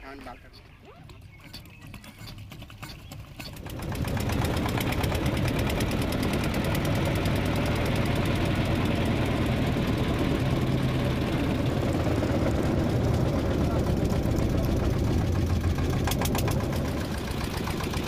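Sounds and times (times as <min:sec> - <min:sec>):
small boat engine knocking: 0:01.0 - 0:18.0.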